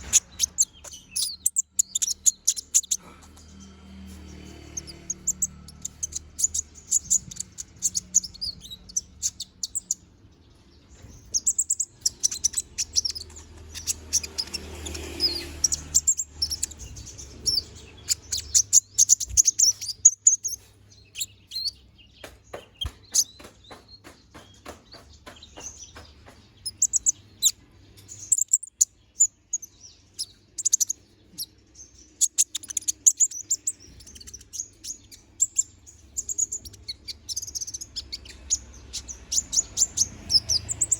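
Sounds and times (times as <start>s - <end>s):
songbird chirping and twittering: 0.0s - 40.9s.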